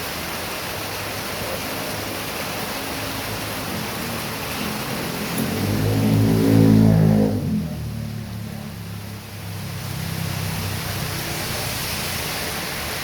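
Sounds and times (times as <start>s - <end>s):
heavy rain falling: 0.0s - 13.0s
vehicle engine approaching: 1.5s - 12.4s.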